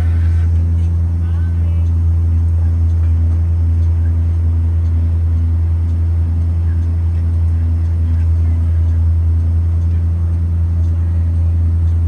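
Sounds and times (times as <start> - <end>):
bus engine droning: 0.0 - 12.0
low pulsing tone: 0.0 - 12.0.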